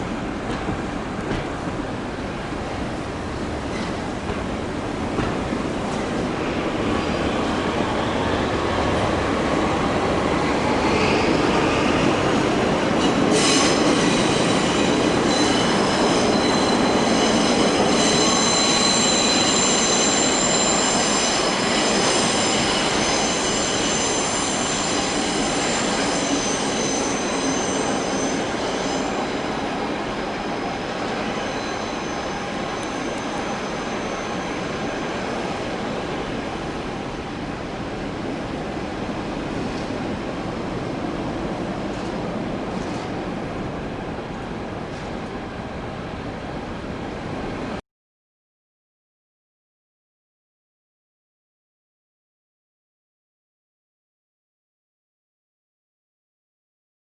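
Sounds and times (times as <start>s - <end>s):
railcar wheels rumbling: 0.0s - 47.8s.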